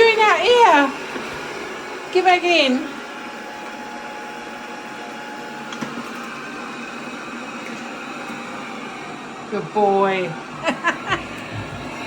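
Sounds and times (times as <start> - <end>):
robot vacuum running on carpet: 0.0 - 12.0.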